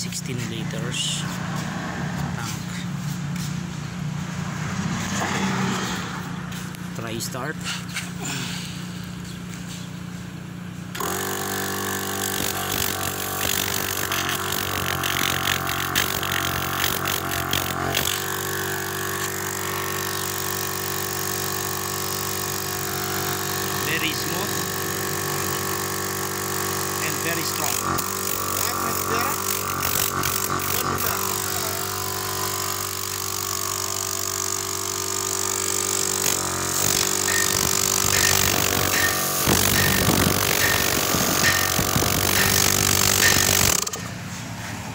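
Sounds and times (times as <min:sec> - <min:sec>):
air compressor motor humming: 0:00.0 - 0:44.4.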